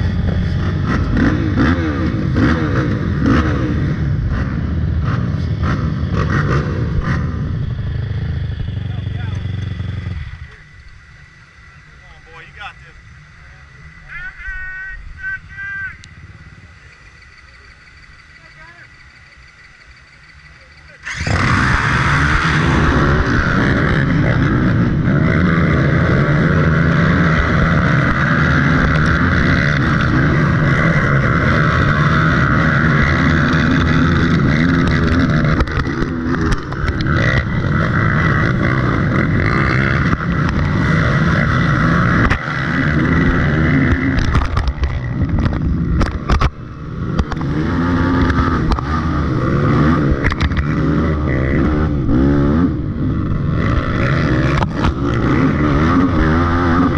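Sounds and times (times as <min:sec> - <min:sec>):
quad engine at high throttle: 0:00.0 - 0:56.9.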